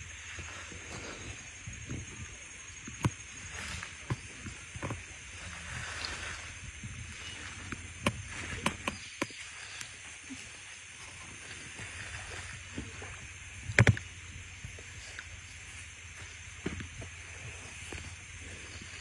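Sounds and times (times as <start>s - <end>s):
stream water running: 0.0s - 19.0s
water splashes: 0.0s - 19.0s.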